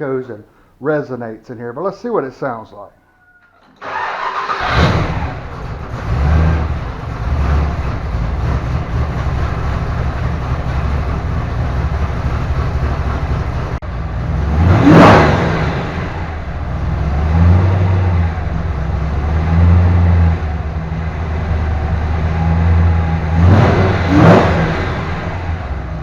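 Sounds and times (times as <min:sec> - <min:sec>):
car engine revving: 0:03.8 - 0:26.0
car engine starting and idling: 0:03.8 - 0:26.0.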